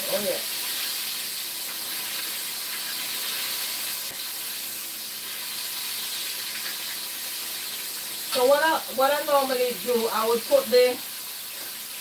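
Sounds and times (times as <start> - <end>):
chicken frying in hot oil: 0.0 - 12.0.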